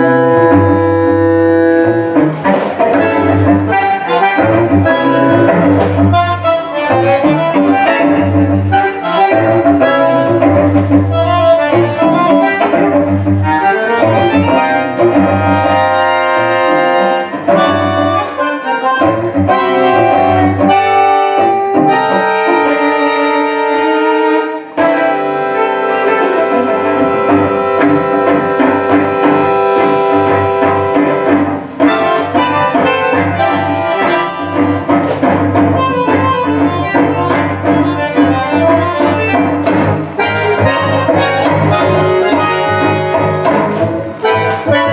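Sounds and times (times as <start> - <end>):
bandoneon chords and melody: 0.0 - 44.9
cello bass line: 0.0 - 44.9.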